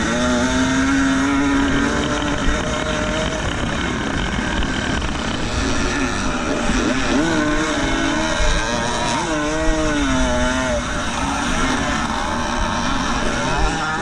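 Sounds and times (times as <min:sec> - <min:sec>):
two-stroke motorbike engine revving: 0:00.0 - 0:14.0.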